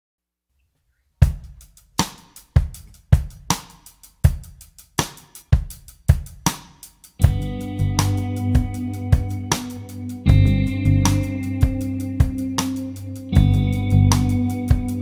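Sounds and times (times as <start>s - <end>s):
drum kit playing a beat: 1.2s - 15.0s.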